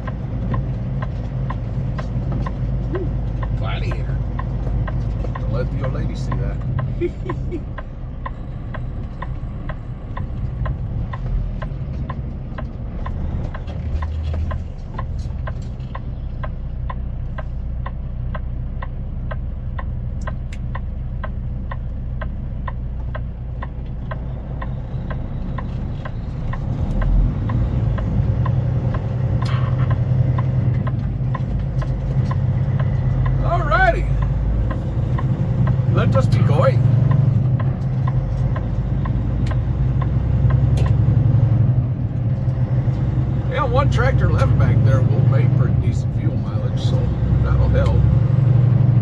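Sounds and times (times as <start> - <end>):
truck engine running: 0.0 - 49.0
turn signal clicking: 0.0 - 49.0.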